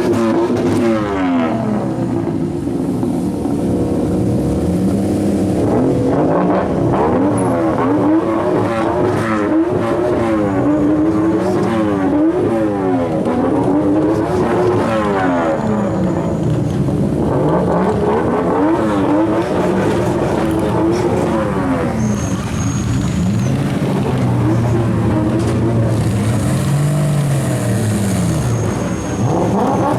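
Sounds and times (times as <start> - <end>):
car engine revving hard: 0.0 - 29.9.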